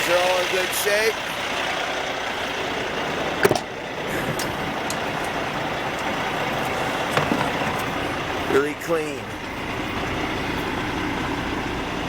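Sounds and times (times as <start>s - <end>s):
diesel truck idling: 0.0s - 12.0s.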